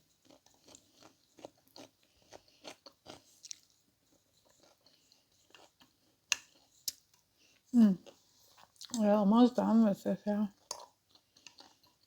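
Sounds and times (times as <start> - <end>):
close-up chewing: 0.2 - 9.2, 10.5 - 12.0.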